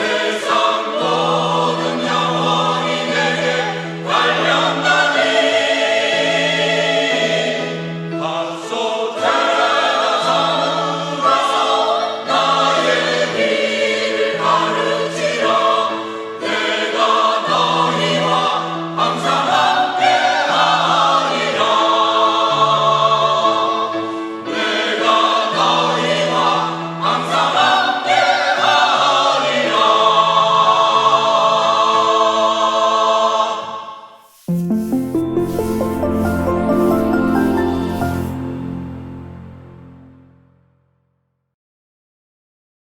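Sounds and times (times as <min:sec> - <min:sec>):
church choir singing a hymn: 0:00.0 - 0:39.6.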